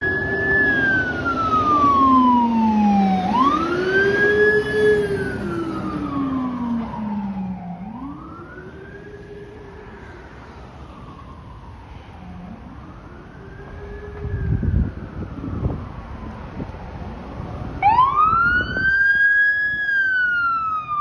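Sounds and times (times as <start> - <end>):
engine and road rumble: 0.0 - 21.0
fire truck siren wailing: 0.0 - 21.0.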